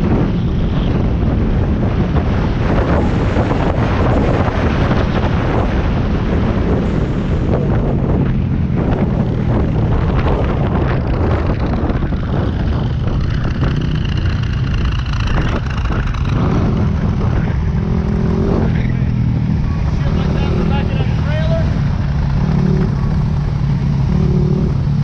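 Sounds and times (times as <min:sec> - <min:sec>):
motorcycle engine cruising: 0:00.0 - 0:25.0
wind rushing over microphone: 0:00.0 - 0:25.0.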